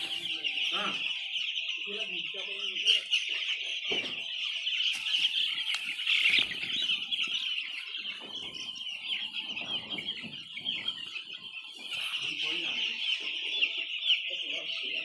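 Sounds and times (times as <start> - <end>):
chickens clucking: 0.0 - 15.0
chicks cheeping: 0.0 - 15.0.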